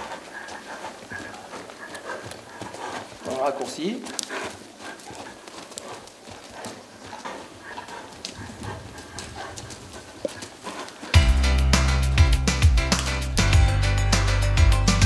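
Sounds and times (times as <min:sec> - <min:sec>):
hoofbeats on sand: 0:00.0 - 0:13.5.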